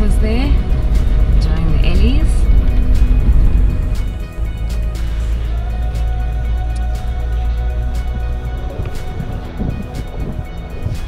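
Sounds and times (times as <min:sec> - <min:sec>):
background music with steady beat: 0:00.0 - 0:11.0
strong bass: 0:00.0 - 0:11.0.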